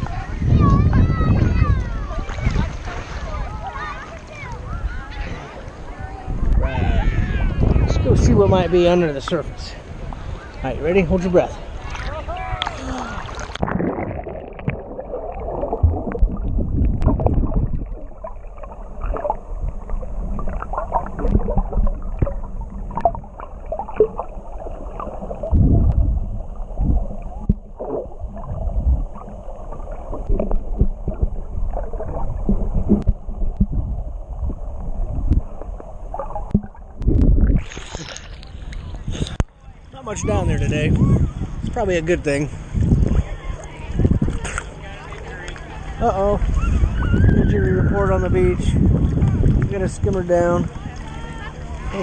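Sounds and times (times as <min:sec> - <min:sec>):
underwater clicks and gurgles: 0:00.0 - 0:06.7, 0:08.8 - 0:40.0, 0:40.8 - 0:52.0
underwater rumble of moving water: 0:00.0 - 0:52.0.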